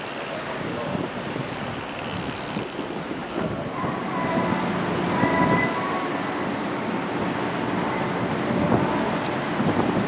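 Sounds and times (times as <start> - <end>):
ship background noise: 0.0 - 10.0
wind on microphone: 0.0 - 10.0
faint steady tones: 1.5 - 9.8.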